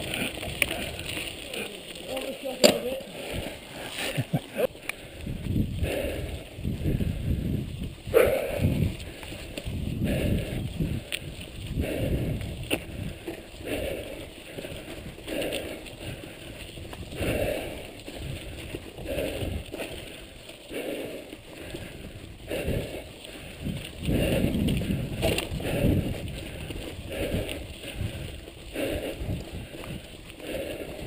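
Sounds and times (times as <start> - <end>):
bike rattling: 0.0 - 31.0
bike tyres crunching on gravel: 0.0 - 31.0.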